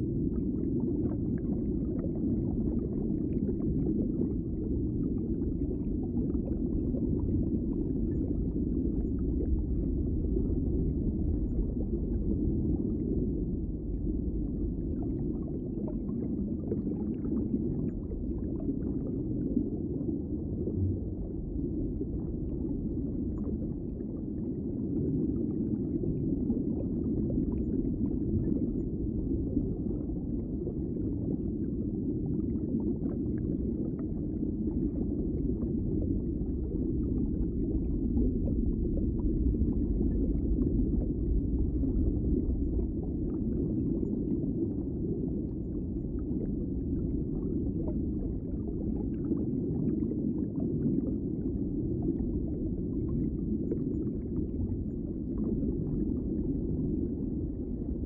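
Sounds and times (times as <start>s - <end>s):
muffled underwater rush: 0.0s - 58.0s.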